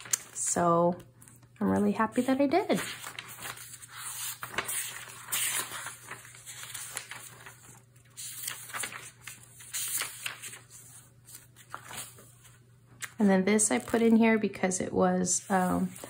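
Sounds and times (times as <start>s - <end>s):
paper pages rustling: 0.0s - 0.4s, 1.0s - 14.2s, 15.4s - 16.0s.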